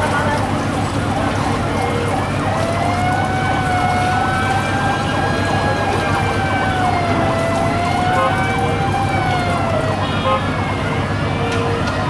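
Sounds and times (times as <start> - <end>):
idling engines and traffic rumble: 0.0 - 12.0.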